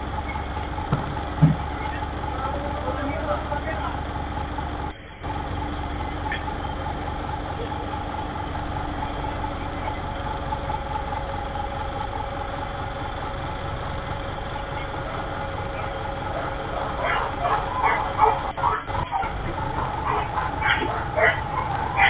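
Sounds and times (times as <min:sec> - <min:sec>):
garbage truck engine running: 0:00.0 - 0:22.0.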